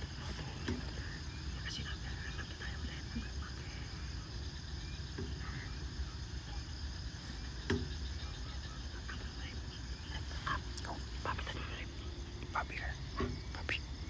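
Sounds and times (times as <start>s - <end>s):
crickets calling: 0.0s - 14.0s
low background rumble: 0.0s - 14.0s.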